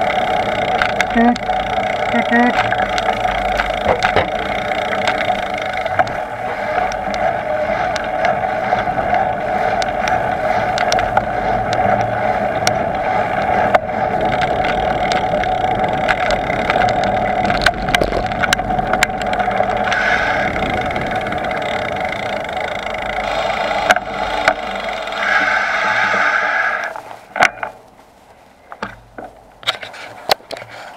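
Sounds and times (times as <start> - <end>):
rattles from bumps: 0.0 - 28.0
bicycle hum: 0.0 - 30.9
road rumble: 0.0 - 30.9
wind: 0.0 - 30.9.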